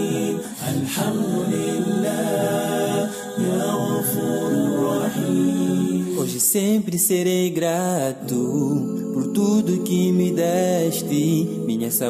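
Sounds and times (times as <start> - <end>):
voices singing harmonies: 0.0 - 12.0.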